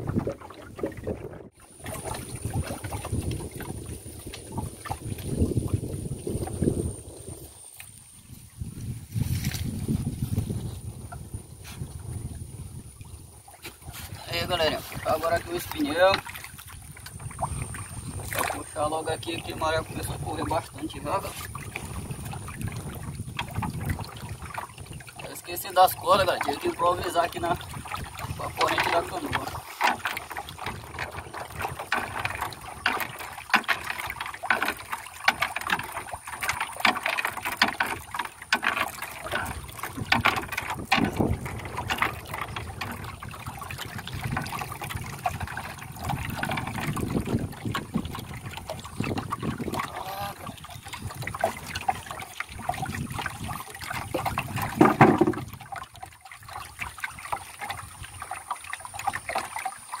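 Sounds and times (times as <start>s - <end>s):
water dripping and splashing: 0.0s - 60.0s.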